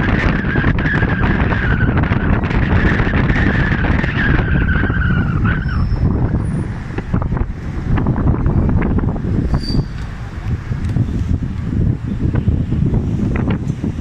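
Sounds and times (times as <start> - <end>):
bus rumble: 0.0 - 14.0
wind on microphone: 0.0 - 14.0.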